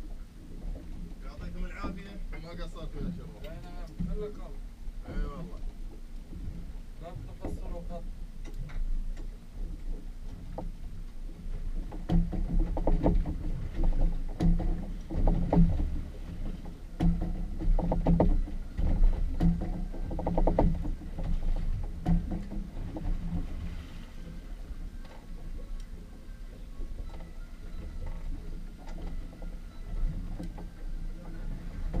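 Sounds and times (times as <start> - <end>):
water slapping against hull: 0.0 - 32.0.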